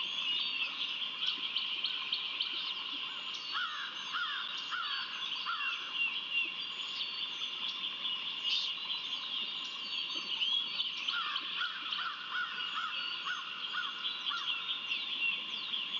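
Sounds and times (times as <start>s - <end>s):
songbirds chirping: 0.0s - 15.9s.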